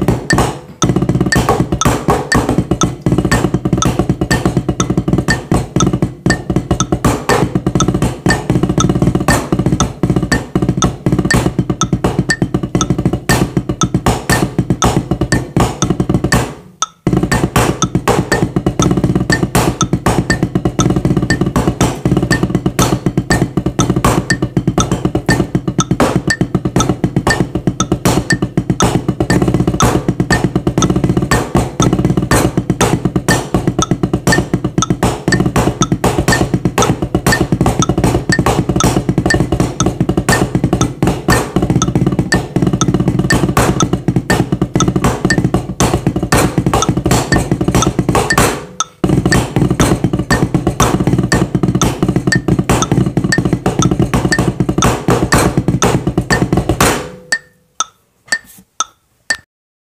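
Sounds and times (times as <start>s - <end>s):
drumsticks on practice pad: 0.0s - 32.5s, 33.3s - 59.5s.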